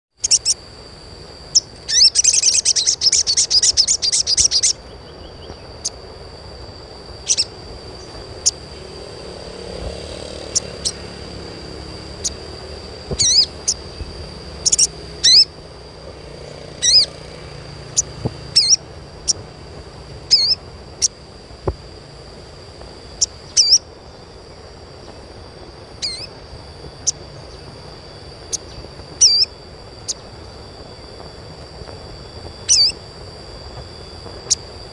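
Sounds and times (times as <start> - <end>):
bird chattering trill: 0.2 - 0.7, 1.5 - 15.6, 16.4 - 21.5, 23.0 - 25.2, 25.8 - 34.8
sharp high bird chirps: 0.2 - 0.7, 1.5 - 34.9
thin steady high tone: 0.2 - 34.9.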